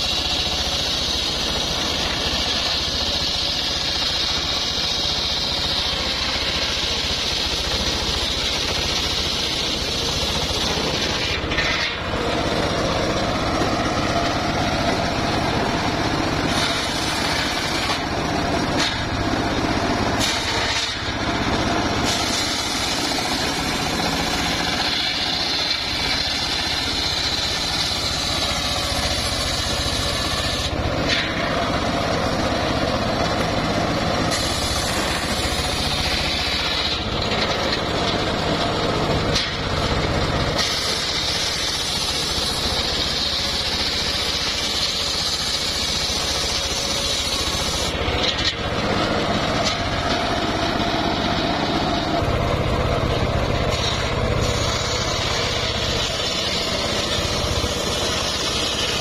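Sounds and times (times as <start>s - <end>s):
circular sawmill engine running: 0.0s - 59.0s
saw blade whining through wood: 0.0s - 59.0s.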